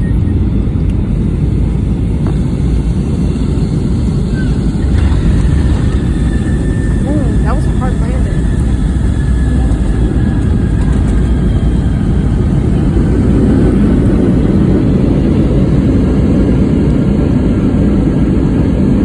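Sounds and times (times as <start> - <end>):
jet engine cabin rumble: 0.0 - 19.0.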